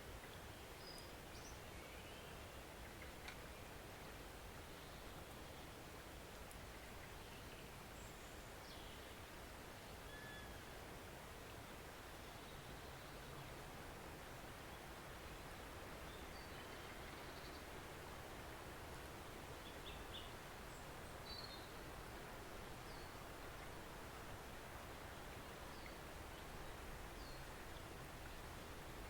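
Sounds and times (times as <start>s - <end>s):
gentle stream rushing: 0.0s - 29.0s.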